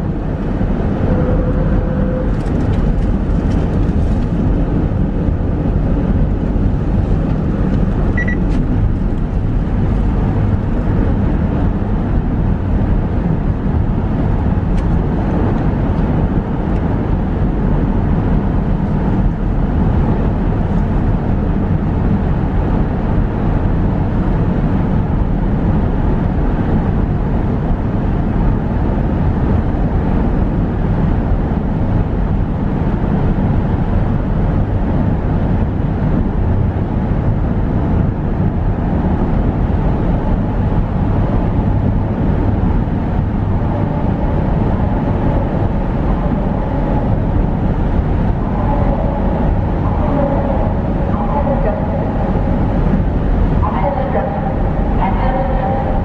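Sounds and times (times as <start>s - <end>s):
car road noise and engine hum: 0.0s - 56.0s.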